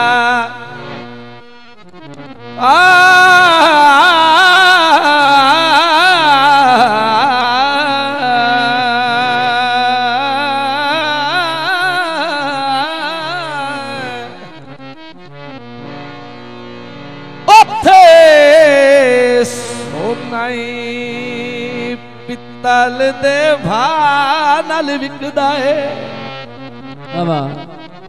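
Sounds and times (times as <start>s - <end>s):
man singing into microphone: 0.0s - 1.2s, 2.6s - 14.8s, 17.5s - 26.4s, 27.1s - 27.9s.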